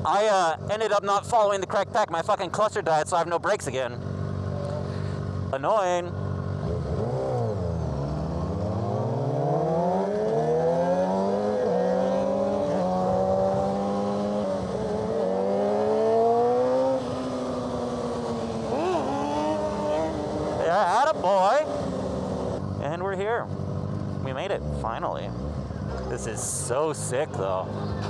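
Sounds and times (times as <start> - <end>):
motorcycle engine accelerating: 3.8 - 28.0.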